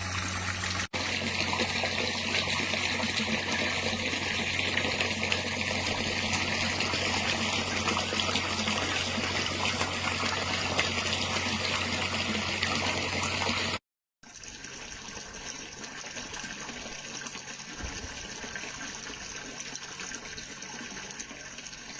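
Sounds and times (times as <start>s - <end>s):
water pouring and splashing: 0.0s - 21.9s.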